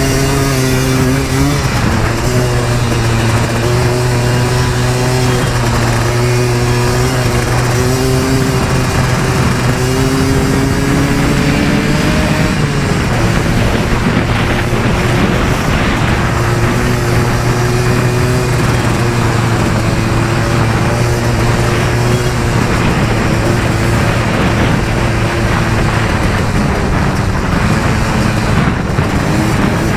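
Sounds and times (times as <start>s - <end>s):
atv engine revving: 0.0s - 29.9s
wind and terrain noise: 0.0s - 29.9s.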